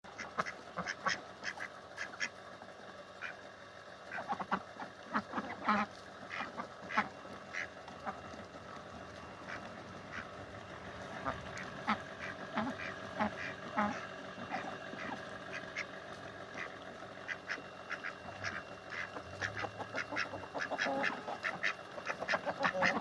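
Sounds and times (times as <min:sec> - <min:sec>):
ducks quacking: 0:00.1 - 0:02.4, 0:03.0 - 0:03.4, 0:04.0 - 0:23.0.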